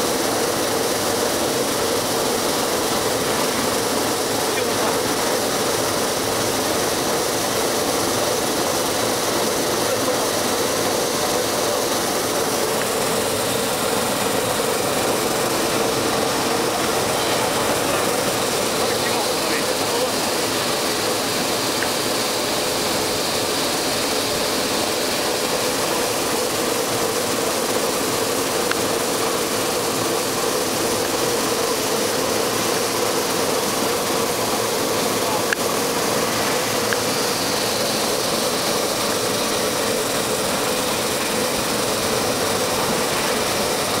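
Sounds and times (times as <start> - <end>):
machine motor hum: 0.0 - 44.0
water spray hissing: 0.0 - 44.0.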